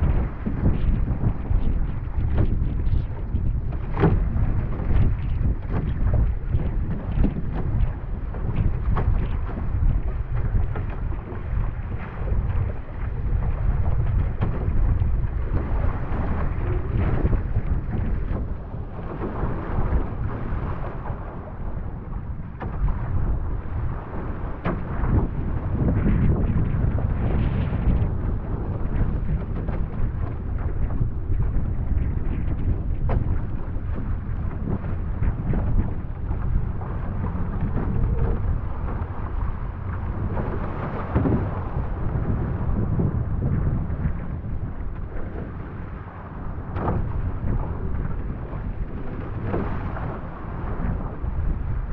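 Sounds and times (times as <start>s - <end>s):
water splashing against hull: 0.0s - 51.9s
wind buffeting microphone: 0.0s - 51.9s.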